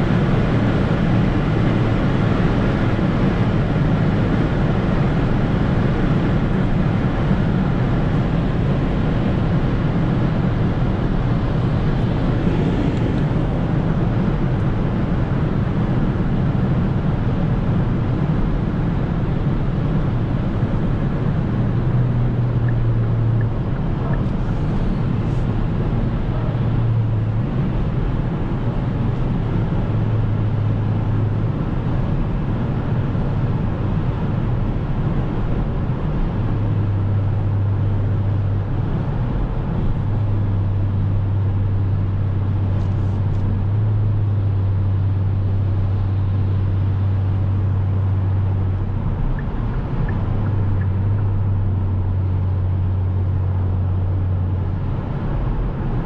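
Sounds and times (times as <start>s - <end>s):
low exhaust drone: 0.0s - 56.0s.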